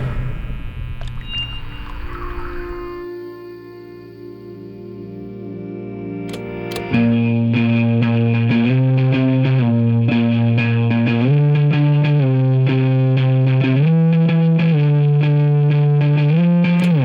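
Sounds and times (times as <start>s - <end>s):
distorted electric guitar chords: 2.4s - 17.0s.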